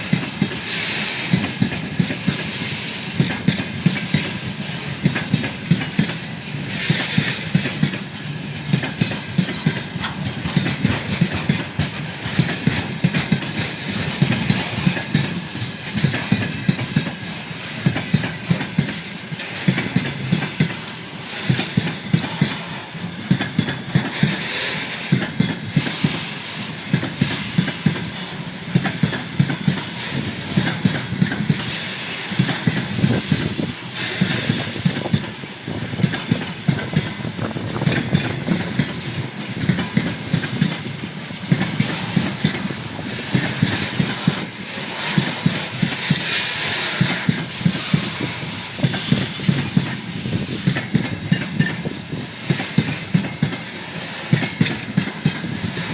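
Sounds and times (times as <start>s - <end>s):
train rumble: 0.0s - 55.9s
train wheels clacking over rail joints: 0.0s - 55.9s.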